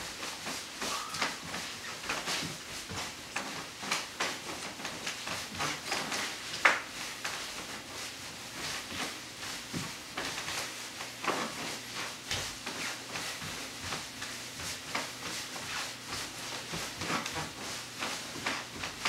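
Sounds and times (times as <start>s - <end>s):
footsteps dancing on a floor: 0.0s - 19.0s.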